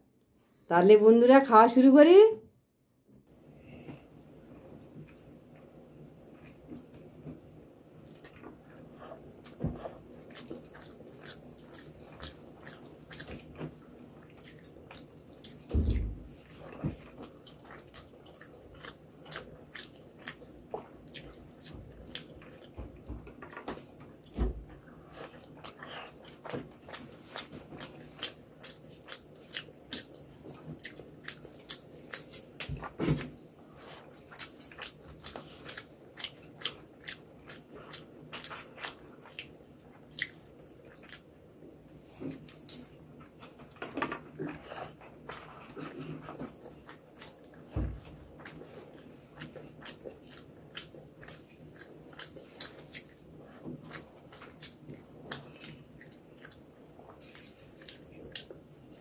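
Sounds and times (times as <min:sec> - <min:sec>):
person chewing food: 0:03.6 - 0:59.0.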